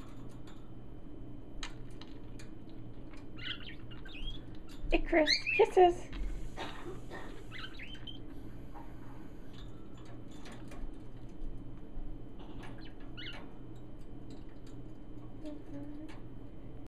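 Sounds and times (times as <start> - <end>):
low steady hum: 0.0 - 16.9
parakeets chirping softly: 1.6 - 11.6, 12.3 - 16.3.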